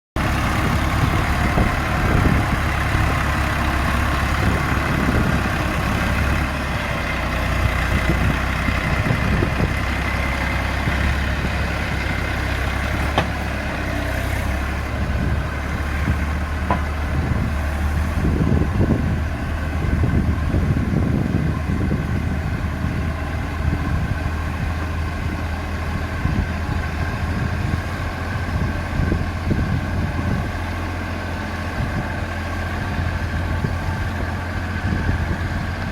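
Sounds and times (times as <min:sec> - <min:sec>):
tractor diesel engine under load: 0:00.2 - 0:35.9.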